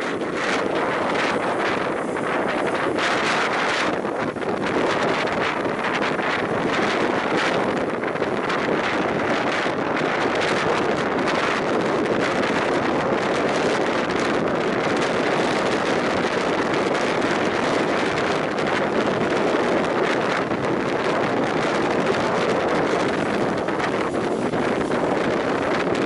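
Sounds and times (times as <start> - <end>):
train coaches rumbling on rails: 0.0 - 26.0
wind buffeting the microphone: 0.0 - 26.0.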